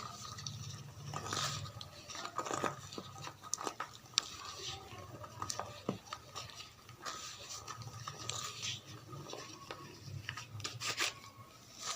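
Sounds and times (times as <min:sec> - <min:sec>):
chalk crumbling and crackling: 0:00.0 - 0:11.9.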